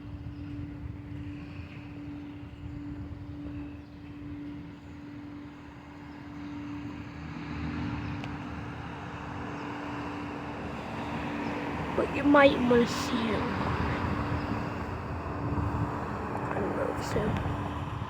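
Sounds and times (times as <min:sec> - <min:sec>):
road traffic rumble and hum: 0:00.0 - 0:18.0.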